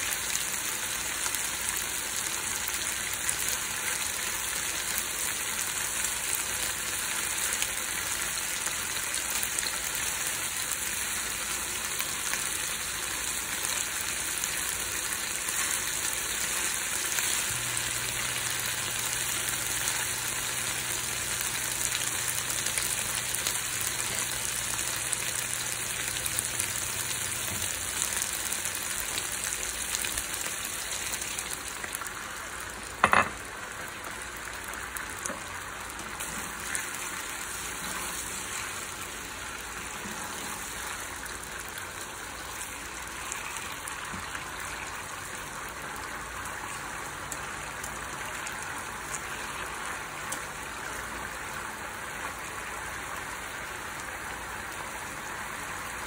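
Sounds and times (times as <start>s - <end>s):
chicken sizzling in frying pan: 0.0s - 56.0s.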